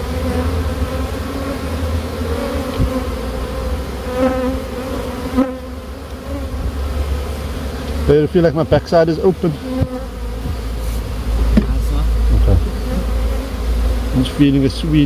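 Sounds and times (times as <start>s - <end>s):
bees buzzing in a swarm: 0.0s - 15.0s
single bees passing close: 0.0s - 15.0s.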